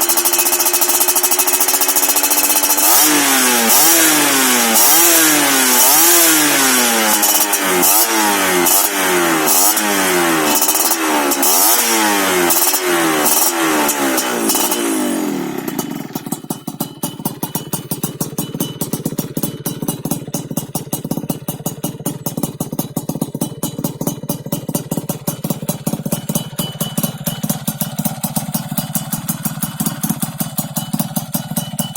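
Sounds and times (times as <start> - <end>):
engine idling with popping: 0.0 - 31.9
two-stroke engine revving: 0.0 - 31.9.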